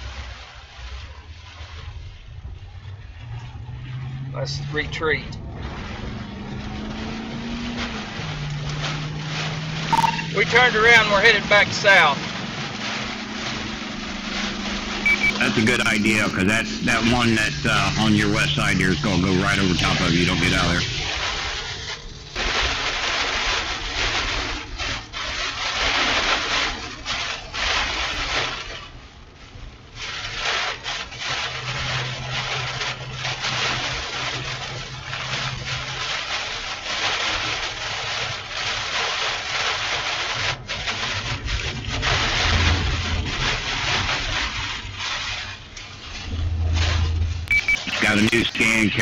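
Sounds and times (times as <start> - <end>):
heavy rain lashing a vehicle: 0.0 - 49.0.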